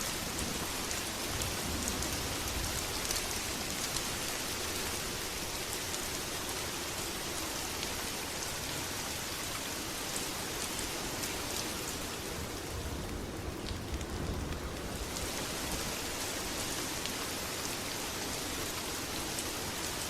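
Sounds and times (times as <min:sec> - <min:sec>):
heavy rain falling: 0:00.0 - 0:20.0
sharp ticks of raindrops: 0:00.0 - 0:20.0.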